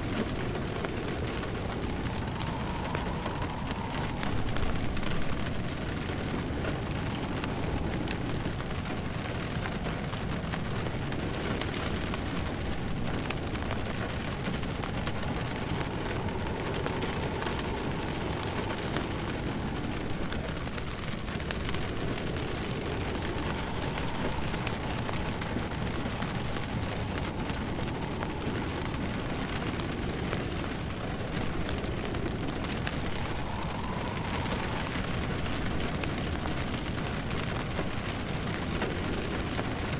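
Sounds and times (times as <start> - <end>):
fireplace crackling: 0.0 - 39.9
rain pattering: 0.0 - 39.9.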